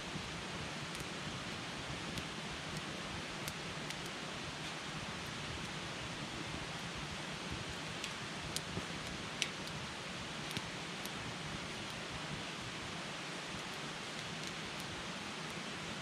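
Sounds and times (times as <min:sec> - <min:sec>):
campfire crackling: 0:00.1 - 0:16.0.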